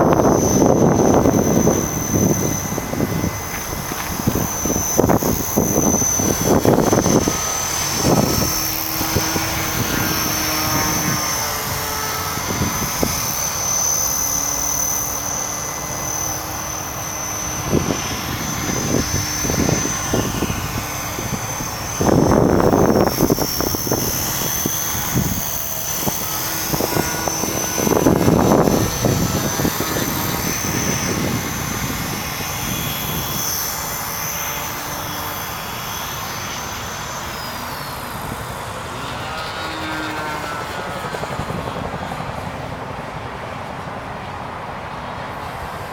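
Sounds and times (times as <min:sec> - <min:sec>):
loud rushes of noise: 0:00.0 - 0:45.9
model airplane engine droning: 0:00.0 - 0:45.9.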